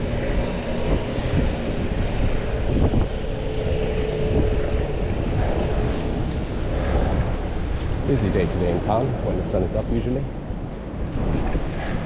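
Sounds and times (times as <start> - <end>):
vehicle engine droning: 0.0 - 12.0
wind rushing on microphone: 0.0 - 12.0.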